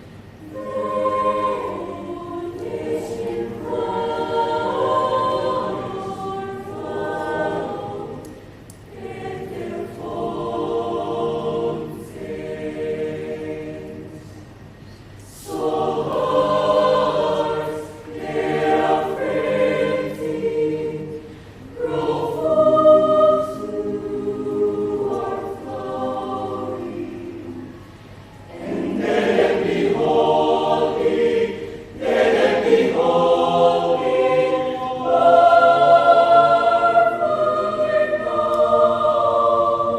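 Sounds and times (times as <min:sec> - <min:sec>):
youth choir singing: 0:00.0 - 0:14.5, 0:15.2 - 0:39.9.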